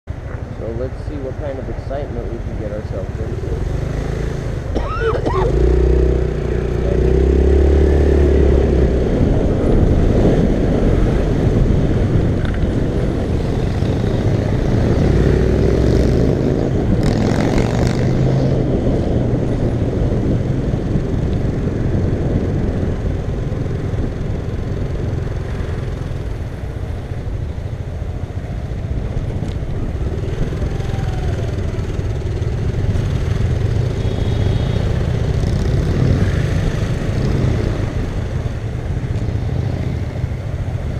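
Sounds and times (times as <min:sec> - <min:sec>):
car engine and road noise: 0:00.0 - 0:40.9
rush of noise: 0:00.1 - 0:40.9.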